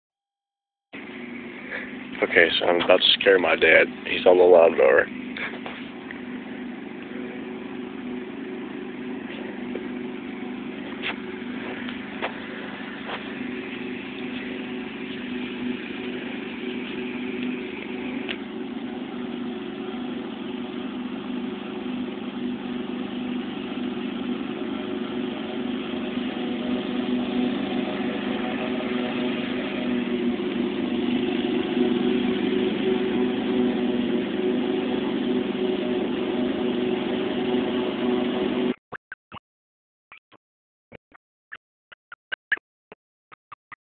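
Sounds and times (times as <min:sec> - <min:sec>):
riding lawnmower engine running: 0:01.0 - 0:38.8.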